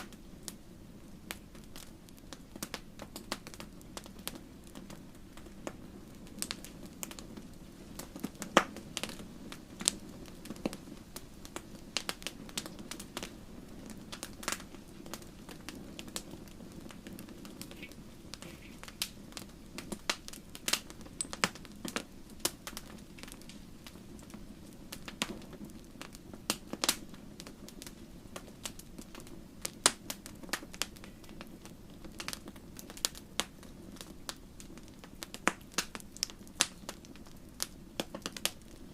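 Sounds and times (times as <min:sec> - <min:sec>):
low rush of flame: 0:00.0 - 0:38.9
wood fire crackling and popping: 0:00.0 - 0:38.9.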